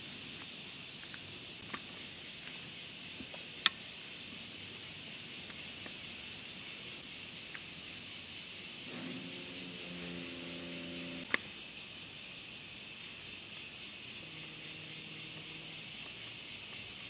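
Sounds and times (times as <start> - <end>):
cicada chorus hiss: 0.0 - 17.0.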